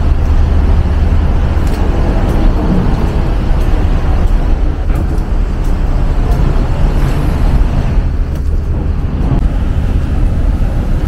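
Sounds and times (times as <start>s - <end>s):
passing cars and buses rumbling: 0.0s - 11.0s.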